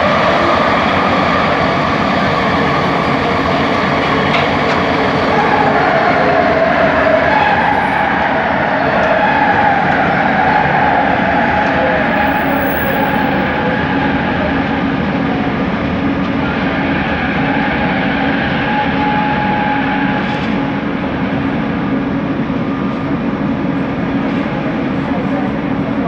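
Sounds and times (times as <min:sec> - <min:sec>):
train rolling noise: 0:00.0 - 0:26.0.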